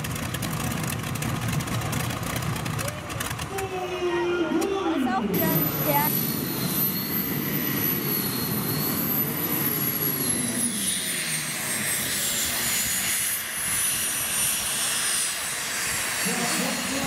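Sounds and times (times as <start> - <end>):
tractor engines with jet-like whine: 0.0 - 17.0.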